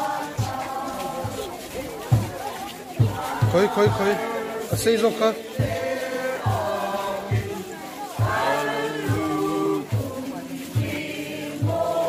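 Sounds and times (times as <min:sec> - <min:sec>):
crowd singing a hymn: 0:00.0 - 0:12.0
low drum beat: 0:00.0 - 0:12.0.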